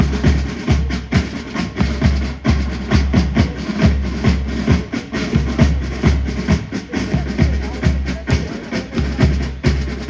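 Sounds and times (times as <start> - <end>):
deep bass drum strokes: 0.0 - 10.0.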